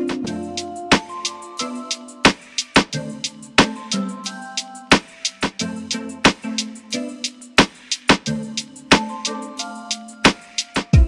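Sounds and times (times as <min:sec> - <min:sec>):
instrumental music with drum hits: 0:00.0 - 0:11.0.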